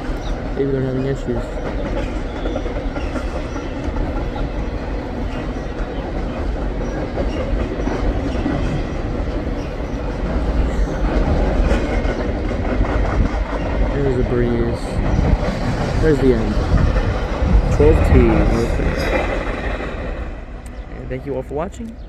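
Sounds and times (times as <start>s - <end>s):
freight train rolling on rails: 0.0s - 22.0s.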